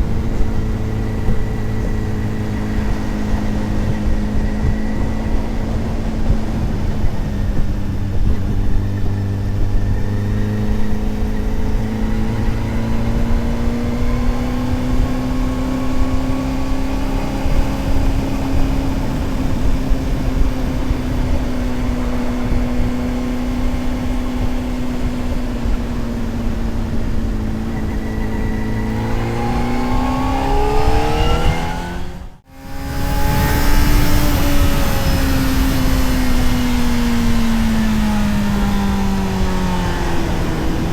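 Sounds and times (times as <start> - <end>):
motorcycle engine cruising: 0.0 - 40.9
wind rush: 0.0 - 40.9.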